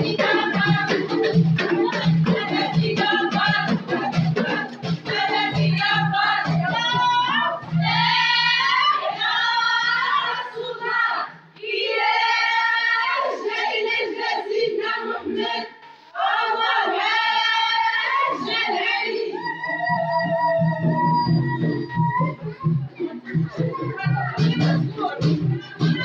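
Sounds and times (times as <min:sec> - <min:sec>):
voices singing with vibrato: 0:00.0 - 0:26.0.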